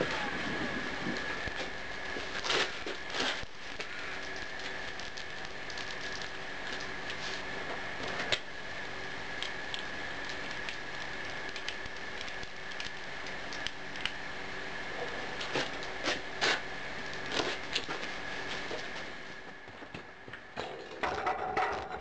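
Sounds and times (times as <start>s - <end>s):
furnace burner roaring: 0.0s - 22.0s
sharp clicks and crackles: 1.1s - 7.4s, 8.0s - 8.5s, 9.3s - 14.2s, 15.4s - 22.0s.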